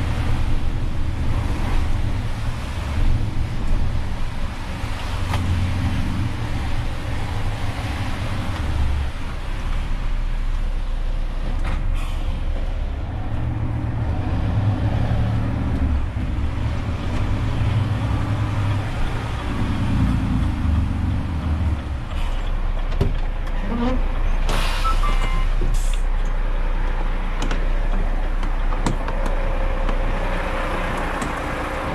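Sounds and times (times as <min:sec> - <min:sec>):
diesel truck engine droning: 0:00.0 - 0:31.9.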